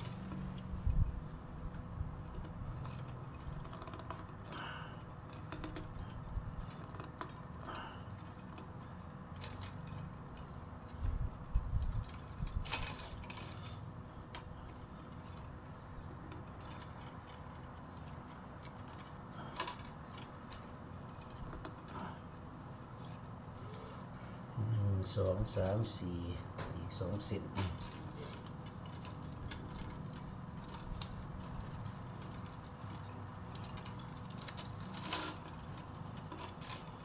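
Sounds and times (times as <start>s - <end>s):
bamboo strips clicking and rustling: 0.0s - 37.0s.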